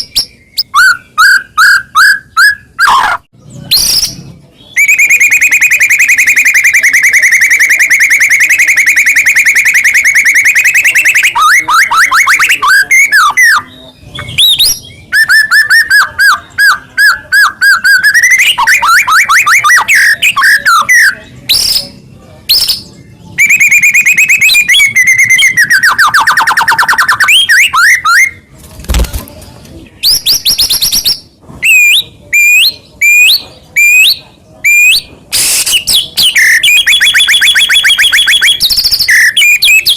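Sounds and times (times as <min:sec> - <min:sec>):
songbird singing trills and whistles: 0:00.0 - 0:28.5, 0:30.0 - 0:39.9.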